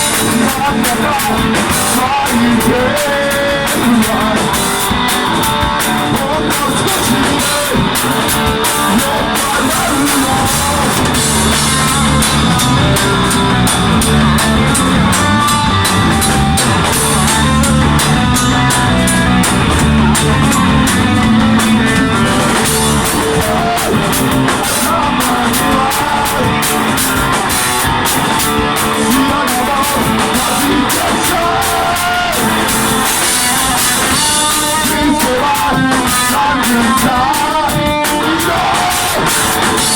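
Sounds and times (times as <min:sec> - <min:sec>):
drum kit: 0:00.0 - 0:39.9
electric guitar: 0:00.0 - 0:39.9
person singing: 0:00.0 - 0:39.9.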